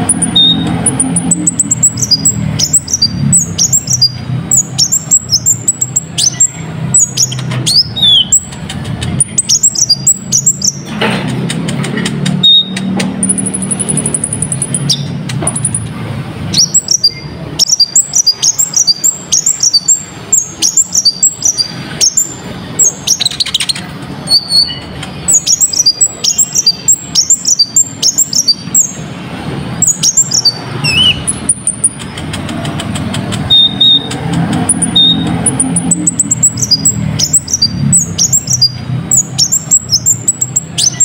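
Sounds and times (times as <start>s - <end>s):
bird chirping song: 0.0s - 41.0s.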